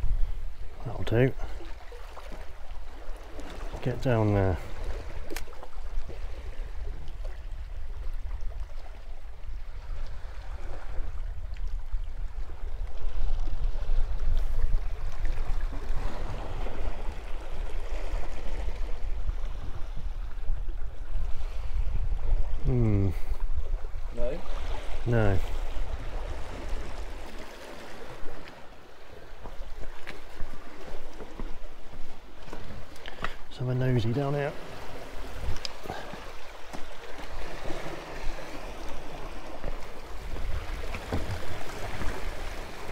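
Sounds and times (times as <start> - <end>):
wind rumbling on microphone: 0.0 - 28.6, 34.7 - 42.9
sea waves lapping against rocks: 0.0 - 42.9.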